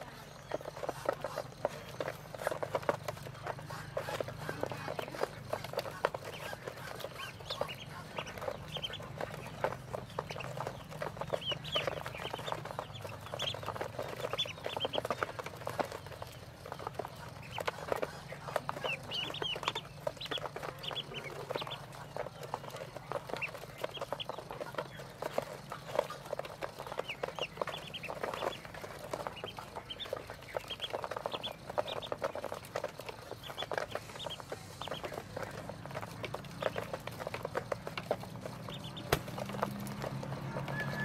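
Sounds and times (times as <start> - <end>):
bills tapping on a feeder: 0.0 - 41.0
ducklings peeping: 0.0 - 41.0.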